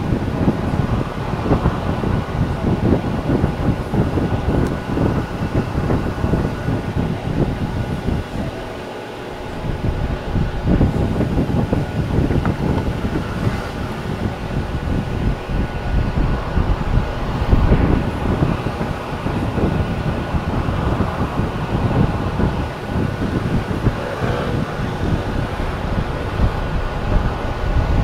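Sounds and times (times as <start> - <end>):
motor vehicle running: 0.0 - 28.0
wind buffeting microphone: 0.0 - 28.0.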